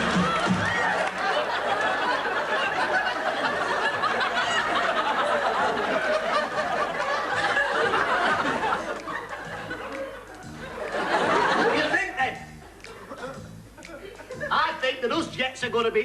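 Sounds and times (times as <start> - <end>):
studio audience laughing: 0.0 - 14.8.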